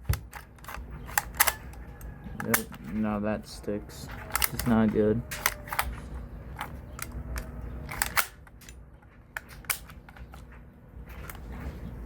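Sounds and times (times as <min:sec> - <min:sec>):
clicks and taps of rifle parts: 0:00.0 - 0:03.0, 0:04.1 - 0:11.4.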